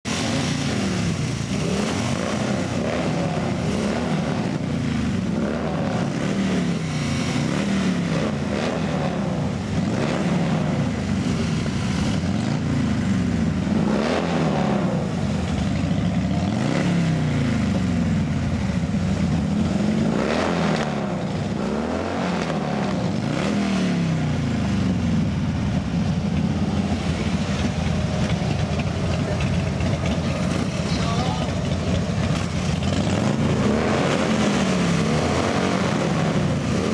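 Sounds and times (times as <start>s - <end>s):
vehicle engine revving: 0.1s - 36.9s.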